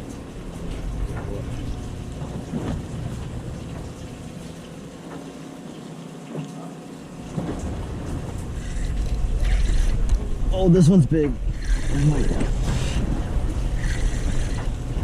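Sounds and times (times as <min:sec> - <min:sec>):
boat engine hum: 0:00.0 - 0:15.0
water washing around hull: 0:00.0 - 0:15.0.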